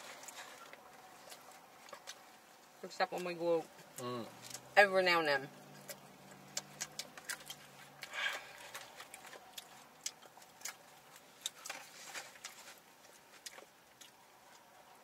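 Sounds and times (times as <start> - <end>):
chewing and mouth noises: 0.0 - 2.8, 5.6 - 15.0.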